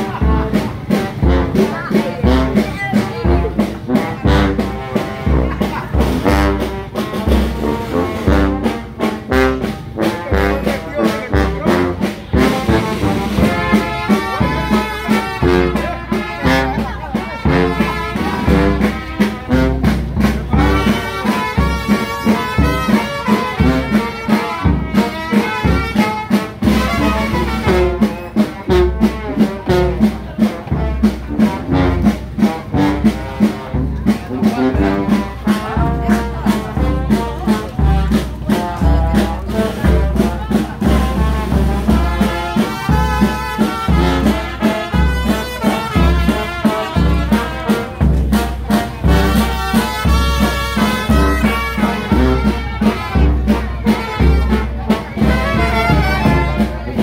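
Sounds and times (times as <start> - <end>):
bass drum beating: 0.0 - 57.0
brass band playing: 0.0 - 57.0.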